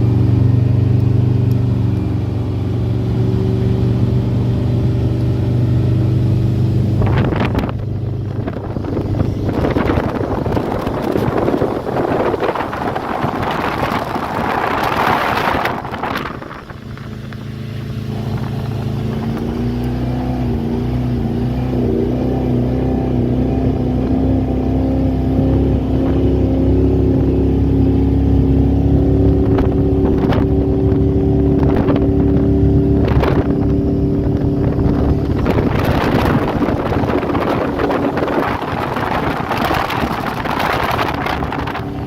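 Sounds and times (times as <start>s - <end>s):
powerboat engine accelerating: 0.0s - 42.0s.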